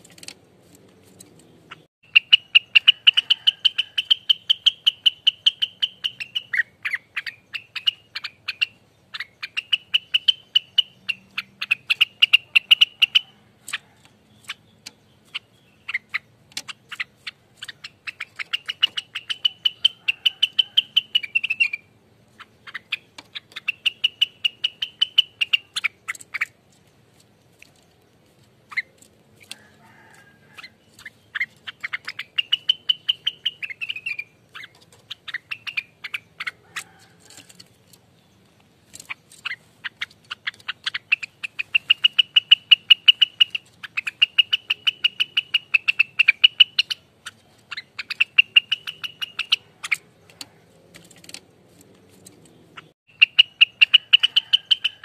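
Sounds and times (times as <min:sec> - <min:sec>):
songbird chattering trills: 0:01.0 - 0:51.4, 0:52.2 - 0:55.0.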